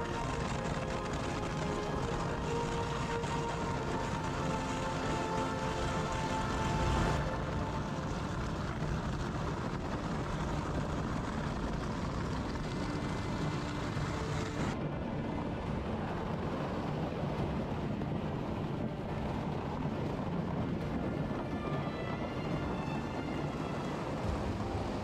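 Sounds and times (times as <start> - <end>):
tracked engine running: 0.0 - 25.0.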